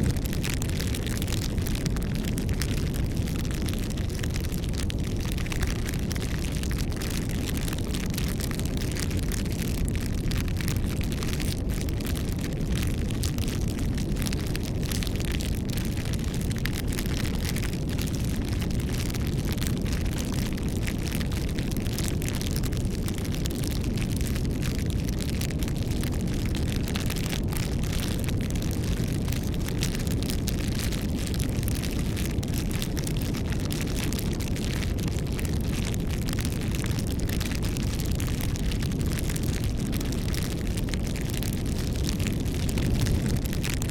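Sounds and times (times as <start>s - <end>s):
burning wood crackling: 0.0s - 43.9s
campfire flames rushing: 0.0s - 43.9s.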